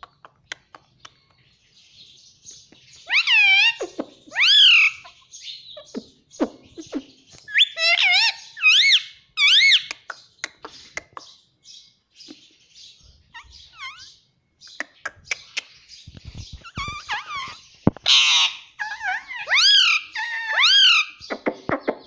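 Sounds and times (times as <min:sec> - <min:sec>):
scratchy bird chatter: 0:00.0 - 0:22.0.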